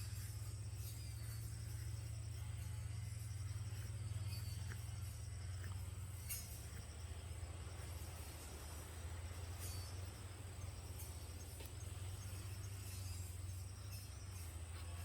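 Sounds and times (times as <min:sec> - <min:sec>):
crickets chirring: 0:00.0 - 0:15.0
low hum: 0:00.0 - 0:15.0.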